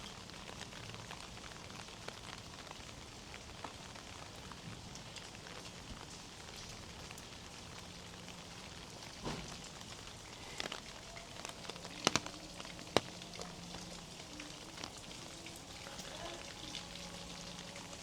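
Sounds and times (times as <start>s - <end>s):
steady rain falling: 0.0s - 18.0s
sharp raindrop taps: 3.4s - 18.0s.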